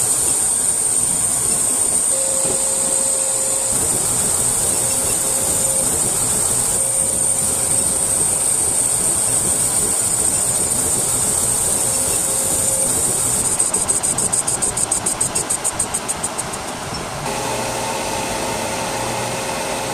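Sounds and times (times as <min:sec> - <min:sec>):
brake lathe cutting hiss: 0:00.0 - 0:19.9
machine running: 0:00.0 - 0:19.9.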